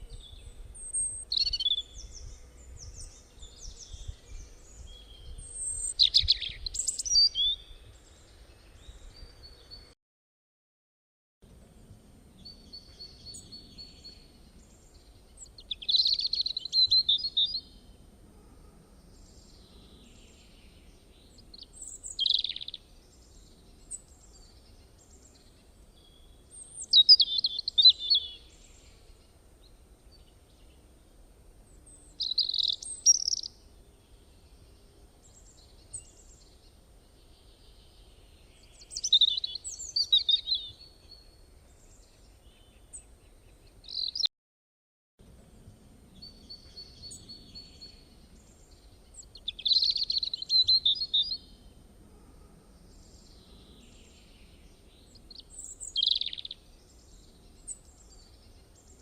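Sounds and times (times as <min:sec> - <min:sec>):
small birds chirping: 0:00.0 - 0:10.0, 0:12.4 - 0:18.0, 0:19.1 - 0:44.3, 0:45.5 - 0:51.8, 0:52.8 - 0:59.0.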